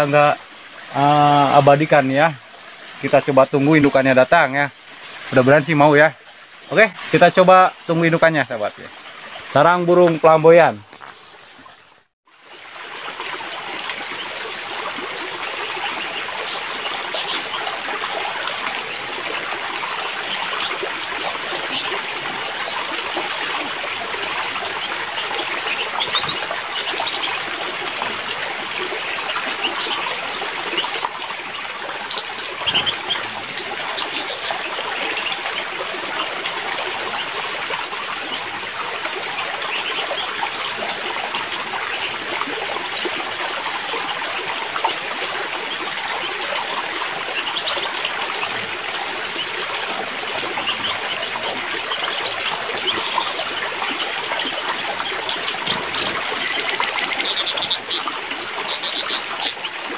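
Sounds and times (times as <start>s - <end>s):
forest stream rushing: 0.0s - 59.9s.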